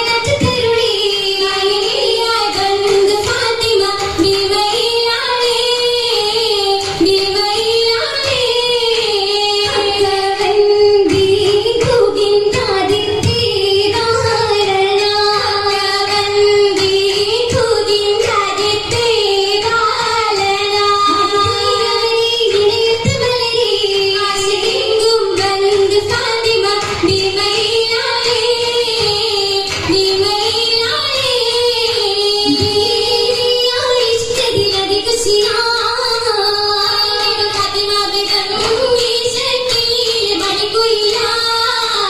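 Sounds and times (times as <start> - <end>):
women and children singing: 0.0 - 42.0.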